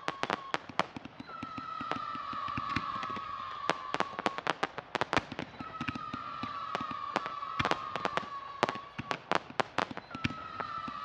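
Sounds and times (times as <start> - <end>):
firework whistle gliding down: 0.0 - 11.0
fireworks bangs and crackles: 0.0 - 11.0.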